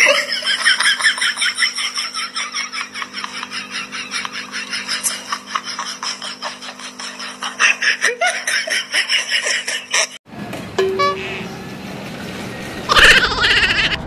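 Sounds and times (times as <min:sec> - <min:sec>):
person laughing hard: 0:00.0 - 0:10.2, 0:12.9 - 0:14.0.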